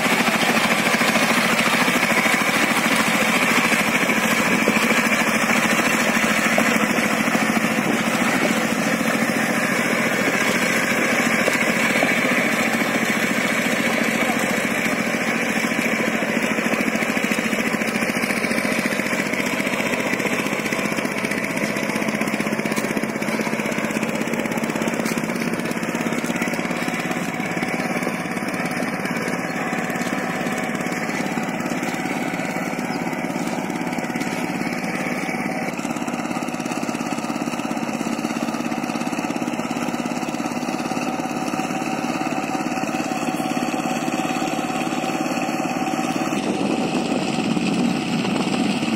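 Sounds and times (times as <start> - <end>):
power tiller engine running: 0.0 - 48.9
rotavator churning mud: 0.0 - 48.9.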